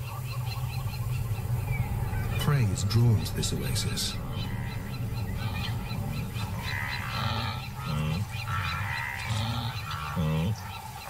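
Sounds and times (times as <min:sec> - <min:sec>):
steady low rumble: 0:00.0 - 0:11.0
wild animal and bird calls: 0:00.0 - 0:11.0.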